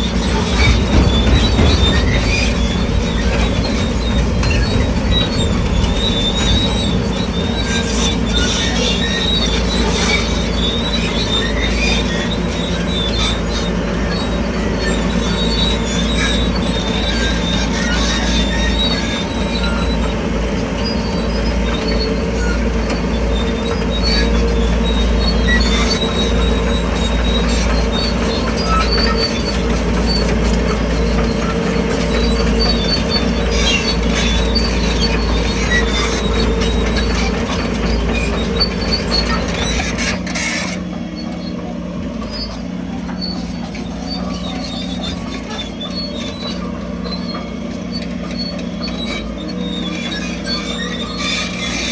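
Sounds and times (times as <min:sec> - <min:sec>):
bulldozer diesel engine hum: 0:00.0 - 0:51.9
steel tracks squealing and clattering: 0:00.0 - 0:51.9.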